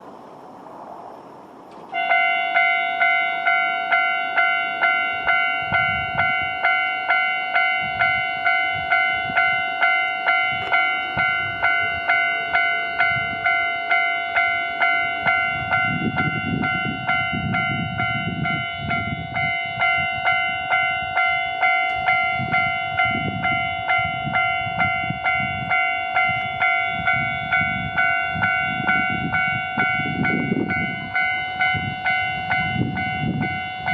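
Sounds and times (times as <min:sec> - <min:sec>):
railcar engine rumble: 0:00.0 - 0:33.9
railroad crossing bell ringing: 0:01.7 - 0:33.9.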